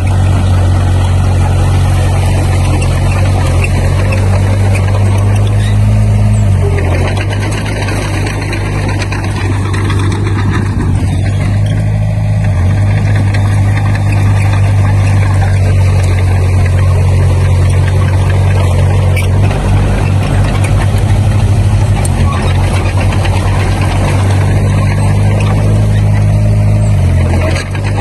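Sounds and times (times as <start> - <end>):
heavy machine diesel engine running: 0.0 - 28.0.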